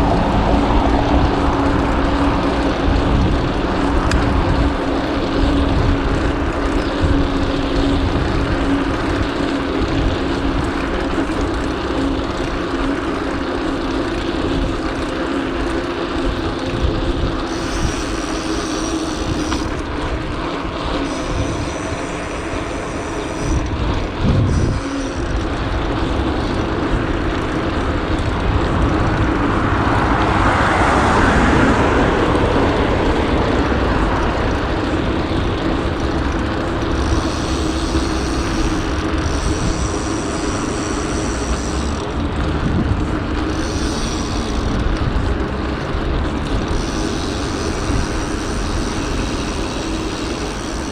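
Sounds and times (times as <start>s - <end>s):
vehicle passing close: 0.0s - 10.1s, 10.8s - 50.9s
wind noise: 0.0s - 11.2s, 16.2s - 50.9s
street traffic: 0.0s - 50.9s.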